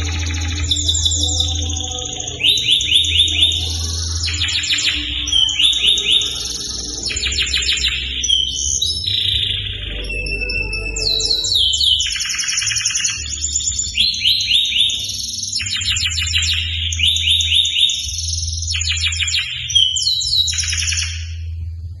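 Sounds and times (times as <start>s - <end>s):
canary singing trills: 0.0s - 21.6s
steady low hum: 0.0s - 22.0s.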